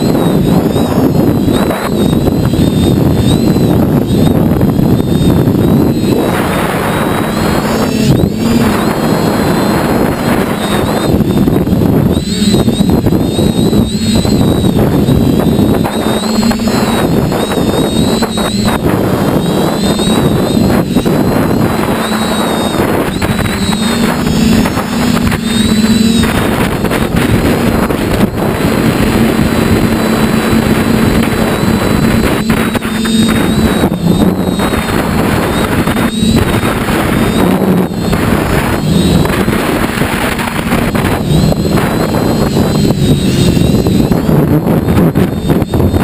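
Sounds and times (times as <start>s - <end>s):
model aircraft motor whine: 0.0s - 46.0s
wind buffeting microphone: 0.0s - 46.0s.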